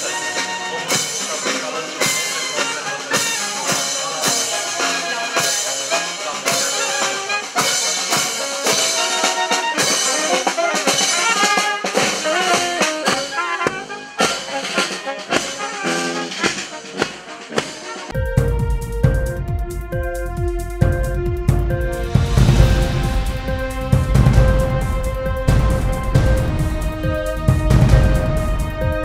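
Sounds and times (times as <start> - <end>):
military brass band playing: 0.0 - 29.0.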